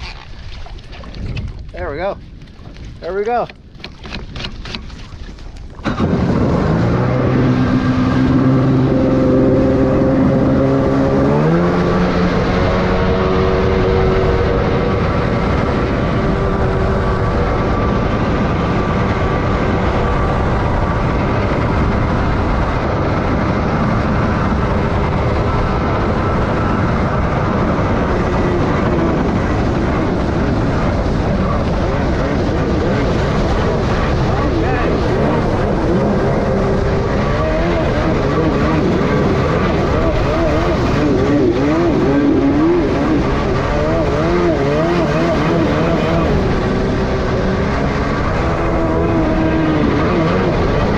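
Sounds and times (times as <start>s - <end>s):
jet ski engine accelerating: 0.0s - 50.9s
wind and water rushing: 0.0s - 50.9s.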